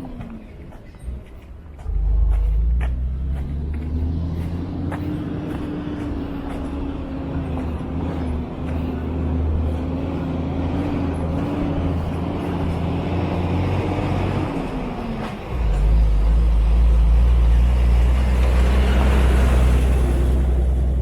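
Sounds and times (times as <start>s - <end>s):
vehicle engine running low: 0.0s - 21.0s.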